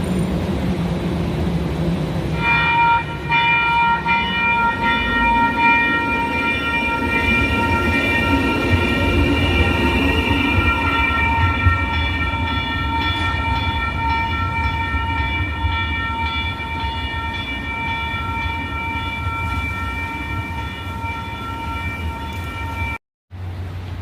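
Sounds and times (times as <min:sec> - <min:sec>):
train low rumble: 0:00.0 - 0:24.0
train high-pitched tone: 0:02.2 - 0:23.0.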